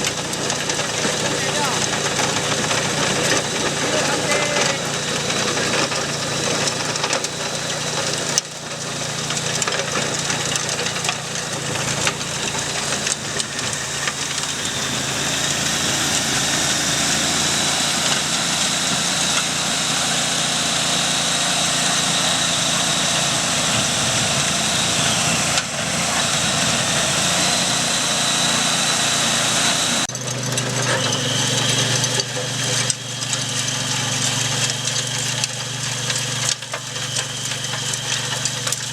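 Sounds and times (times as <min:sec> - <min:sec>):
power tiller engine running: 0:00.0 - 0:38.9.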